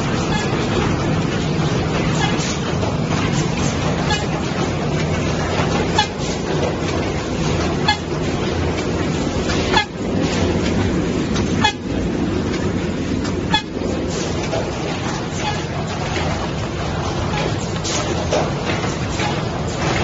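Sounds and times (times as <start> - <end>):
machine mechanical hum: 0.0 - 20.0.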